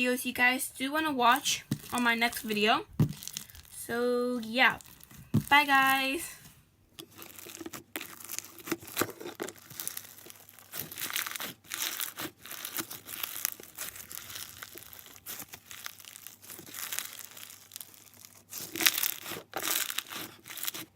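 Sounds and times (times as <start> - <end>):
slime crunchy crackling: 1.2 - 20.9.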